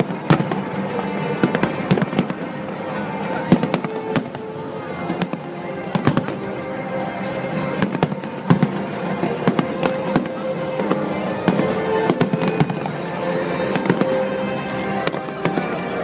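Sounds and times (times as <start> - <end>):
fireworks bangs and cracks: 0.0 - 16.0
music playing: 0.0 - 16.0.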